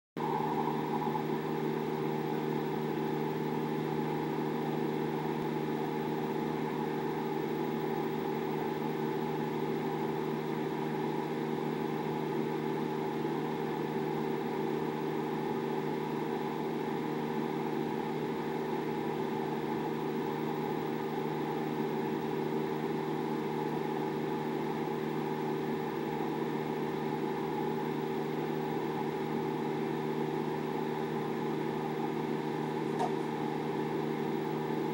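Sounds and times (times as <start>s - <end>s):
steady mechanical hum: 0.2s - 34.9s.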